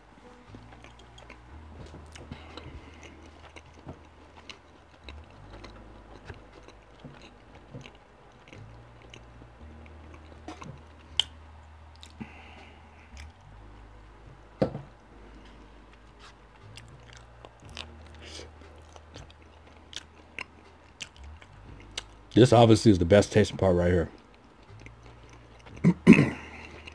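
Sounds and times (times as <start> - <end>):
chewing with wet mouth clicks: 0.6 - 13.8, 15.3 - 22.4, 24.1 - 26.9.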